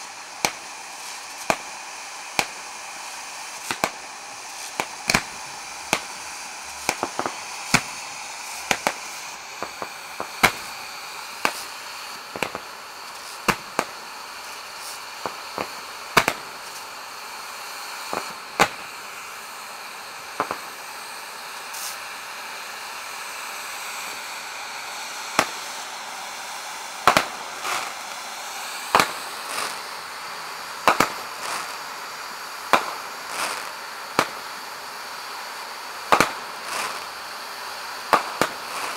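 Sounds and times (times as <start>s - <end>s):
fireworks bangs and cracks: 0.0s - 38.9s
fireworks hissing: 0.0s - 38.9s.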